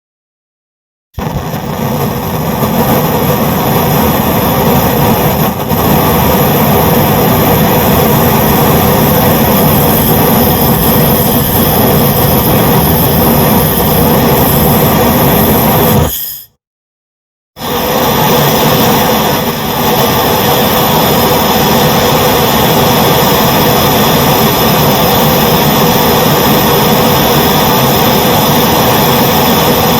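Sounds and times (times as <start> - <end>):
blowtorch flame hissing: 1.2 - 16.4, 17.6 - 29.9.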